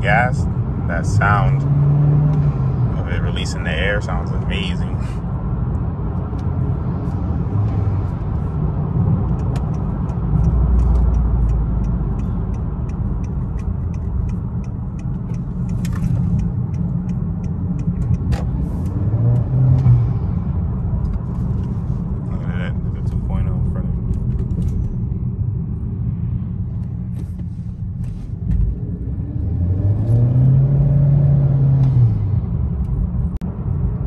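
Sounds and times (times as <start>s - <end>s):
car engine rumble from cabin: 0.0s - 34.0s
road noise: 0.0s - 34.0s.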